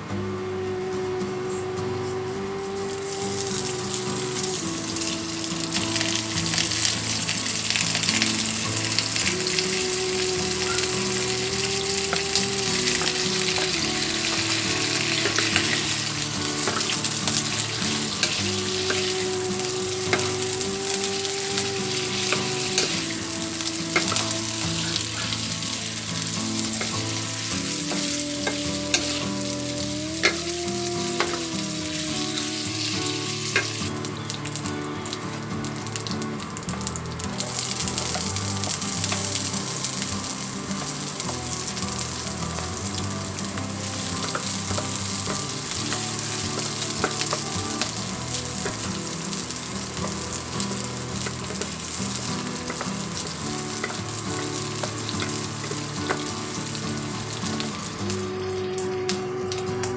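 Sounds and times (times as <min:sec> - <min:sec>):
food sizzling in hot oil: 0:02.4 - 0:59.9.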